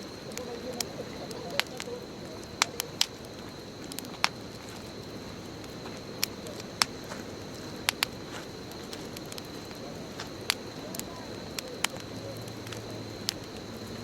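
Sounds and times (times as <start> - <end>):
bonfire pops and snaps: 0.0 - 14.0
faint high whine: 0.0 - 14.0
rush of burning: 0.0 - 14.0.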